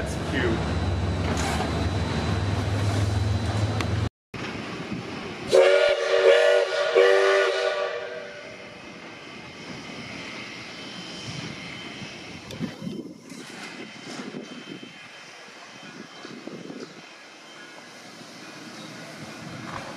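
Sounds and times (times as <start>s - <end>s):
outdoor background noise: 0.0s - 19.9s.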